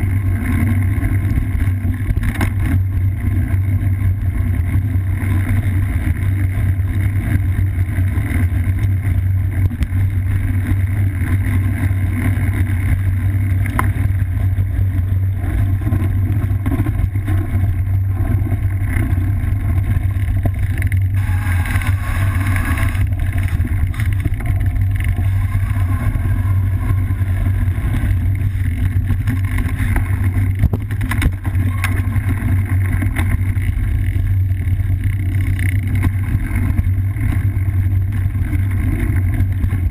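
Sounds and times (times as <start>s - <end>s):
bike tyres rumbling on dirt: 0.0s - 39.9s
wind on microphone: 0.0s - 39.9s.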